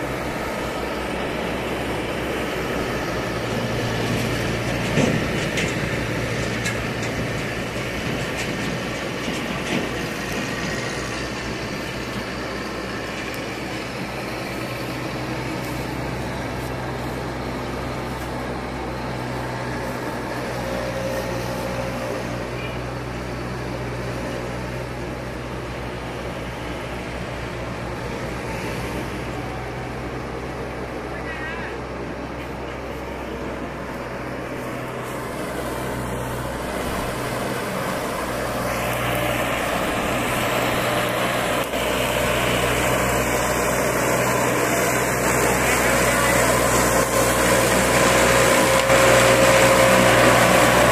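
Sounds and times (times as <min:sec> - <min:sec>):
ride-on mower engine humming: 0:00.0 - 0:50.9.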